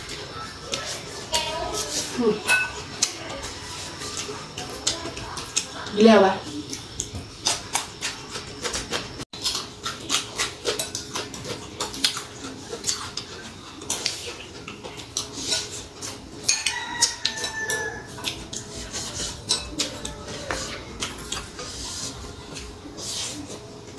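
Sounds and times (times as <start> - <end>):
chewing crunchy cucumber: 2.8 - 23.9.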